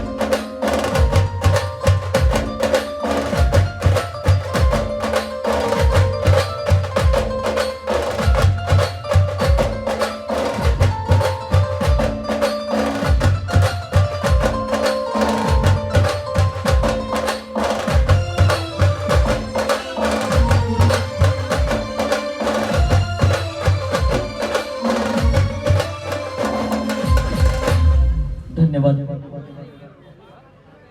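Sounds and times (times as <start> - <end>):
held melody line: 0.0 - 28.2
fast drum and percussion strikes: 0.0 - 28.6.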